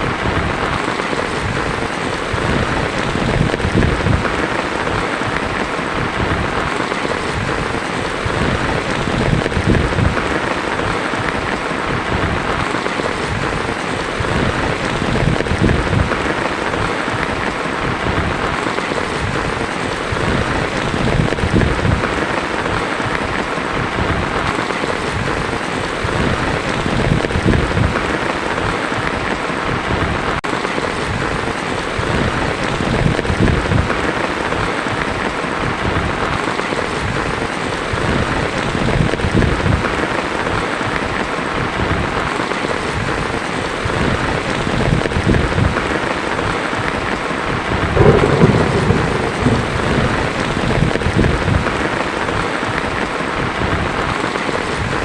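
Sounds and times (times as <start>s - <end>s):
thunder rumbling: 0.0s - 40.6s, 43.8s - 55.0s
heavy rain on a tin roof: 0.0s - 55.0s.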